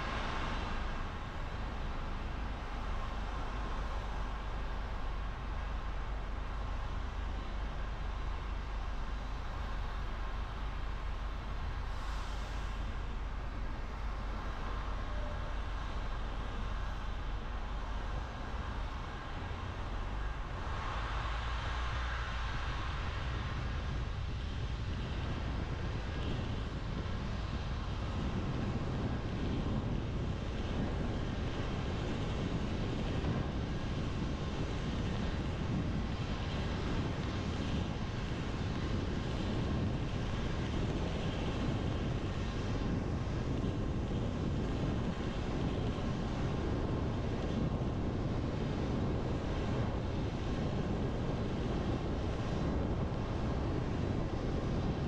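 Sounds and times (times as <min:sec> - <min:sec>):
tyres on wet road: 0:00.0 - 0:55.0.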